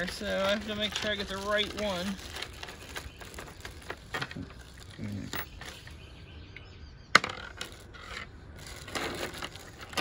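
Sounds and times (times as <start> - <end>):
plastic bag rustling: 0.0 - 6.0, 7.6 - 10.0.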